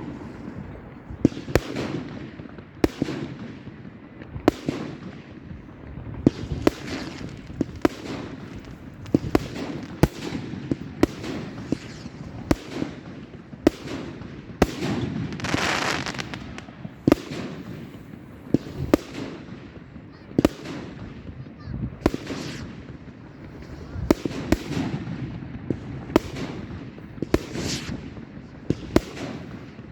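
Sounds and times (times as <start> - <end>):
fireworks bangs: 0.0 - 29.9
hiss of burning fireworks: 0.0 - 29.9.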